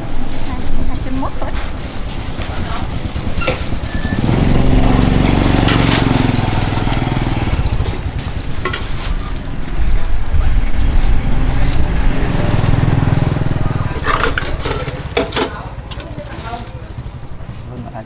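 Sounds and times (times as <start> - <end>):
small engine running: 0.3 - 15.2.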